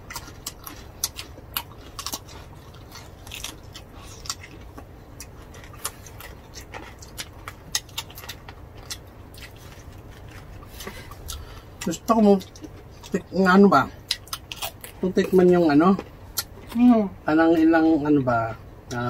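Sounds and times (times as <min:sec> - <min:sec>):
person chewing crunchy meat: 0:00.0 - 0:16.8.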